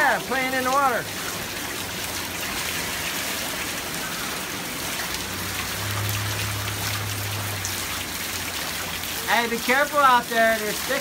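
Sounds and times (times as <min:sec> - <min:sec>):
rain on pavement and grass: 0:00.0 - 0:11.0.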